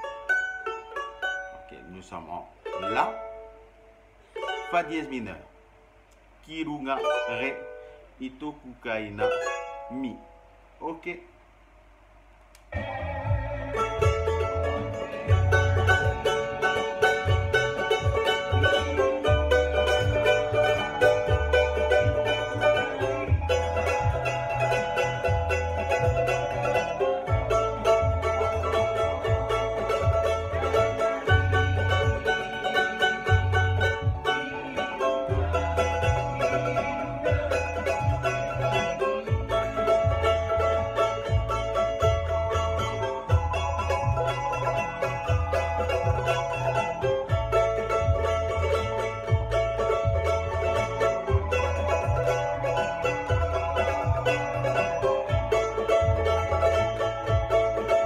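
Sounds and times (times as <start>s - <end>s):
ukulele strummed fast: 0.0s - 3.6s, 4.3s - 5.4s, 6.6s - 10.2s, 12.8s - 58.0s.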